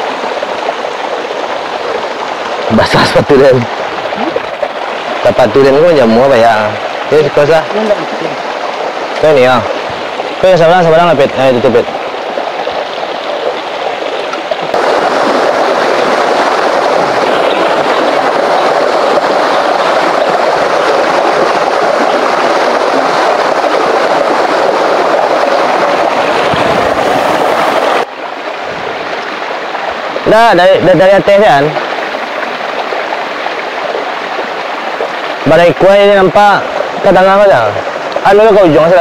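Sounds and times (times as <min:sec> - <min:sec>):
stream rushing over stones: 0:00.0 - 0:39.0.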